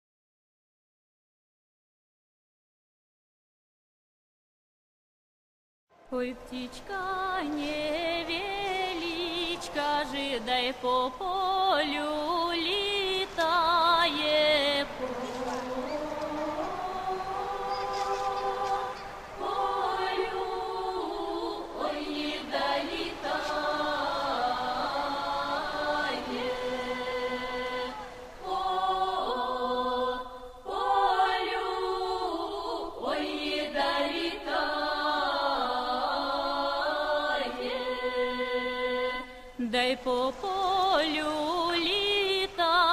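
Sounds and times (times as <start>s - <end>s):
voices singing slow folk song: 6.0s - 42.9s.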